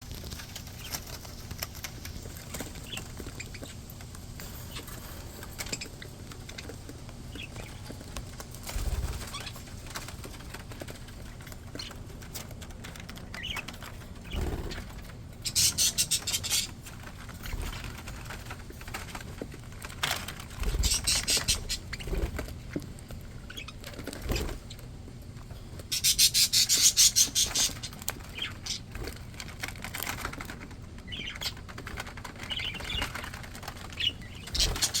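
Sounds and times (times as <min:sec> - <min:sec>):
rapid rattling bursts: 0:00.0 - 0:25.1, 0:25.8 - 0:35.0
budgies chirping: 0:00.1 - 0:35.0.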